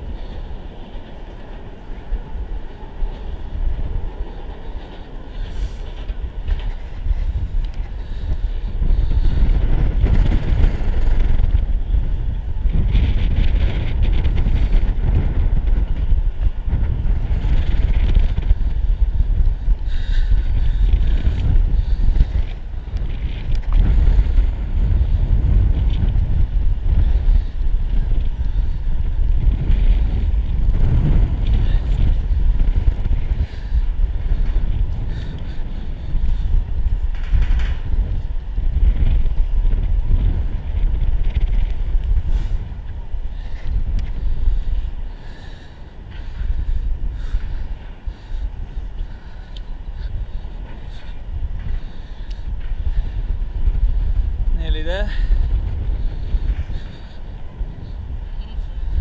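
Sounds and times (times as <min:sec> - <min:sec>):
strong wind buffeting microphone: 0:00.0 - 0:59.0.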